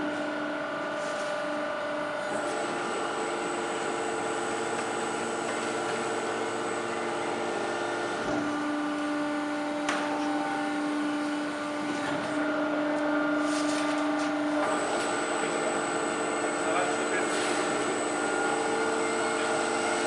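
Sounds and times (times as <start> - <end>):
factory machinery hum: 0.0 - 20.0.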